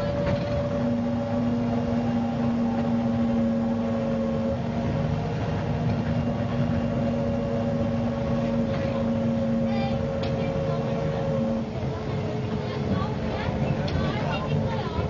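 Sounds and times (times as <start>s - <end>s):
bus engine running: 0.0s - 15.0s
constant hum: 0.0s - 15.0s.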